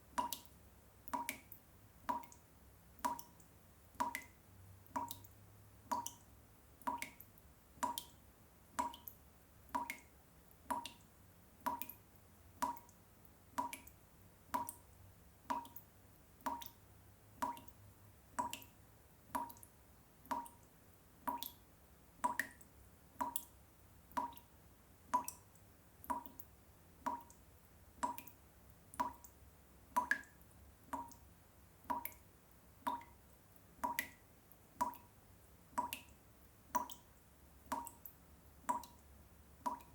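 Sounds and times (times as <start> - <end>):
water drops dripping into water: 0.0 - 39.9.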